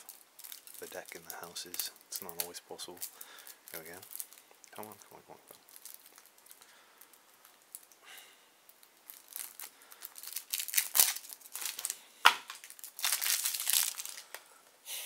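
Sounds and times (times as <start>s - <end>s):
plastic wrap crinkling and tearing: 0.0s - 8.0s, 8.6s - 14.4s.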